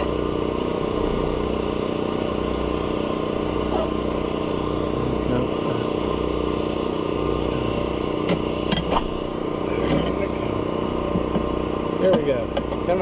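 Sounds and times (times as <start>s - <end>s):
air compressor humming: 0.0s - 13.0s.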